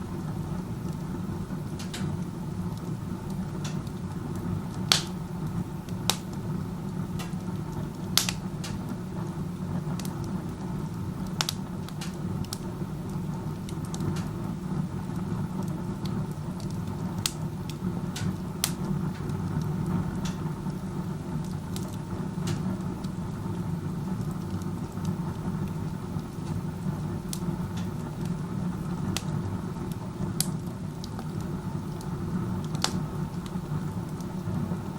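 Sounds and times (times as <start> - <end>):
burning wood pops and crackles: 0.0 - 34.9
stove chimney draft rumble: 0.0 - 34.9.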